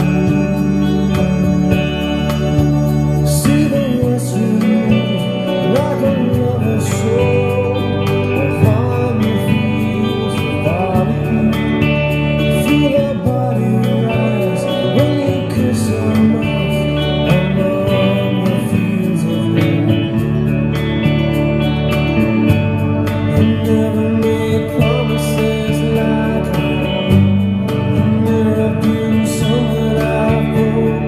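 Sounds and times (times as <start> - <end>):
electric guitar slow melody: 0.0 - 31.0
sustained low notes: 0.0 - 31.0.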